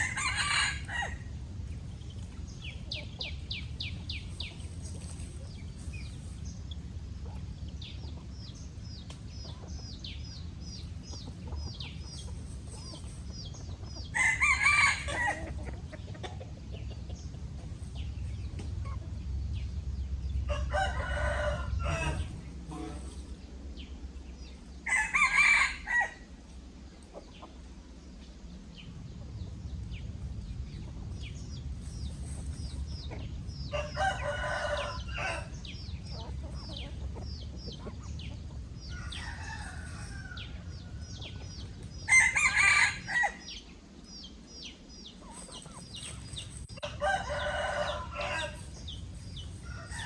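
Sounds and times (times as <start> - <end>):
chicks peeping: 0.0 - 25.3, 26.8 - 50.0
chickens calling loudly: 0.0 - 50.0.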